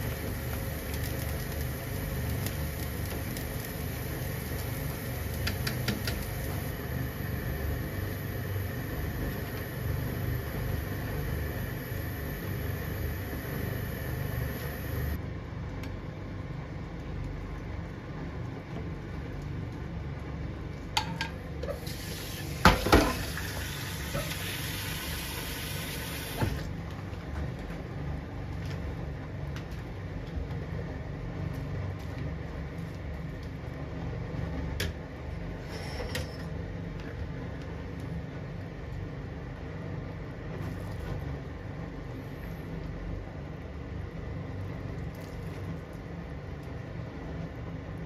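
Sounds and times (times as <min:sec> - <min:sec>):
noodles boiling in water: 0:00.0 - 0:48.0.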